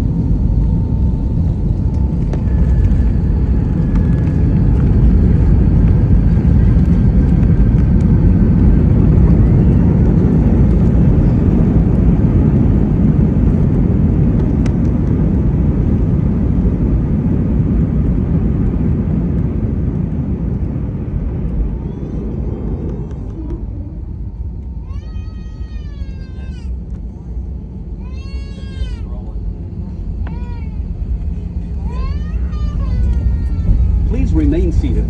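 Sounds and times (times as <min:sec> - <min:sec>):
jet cabin low rumble: 0:00.0 - 0:35.0.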